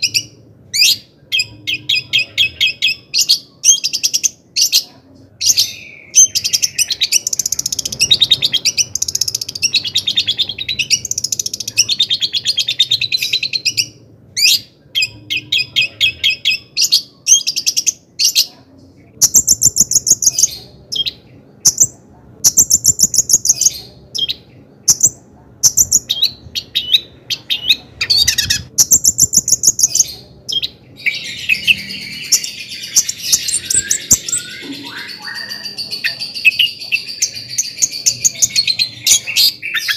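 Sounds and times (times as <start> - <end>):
shrike chirps and trills: 0.0 - 18.5, 19.2 - 39.9.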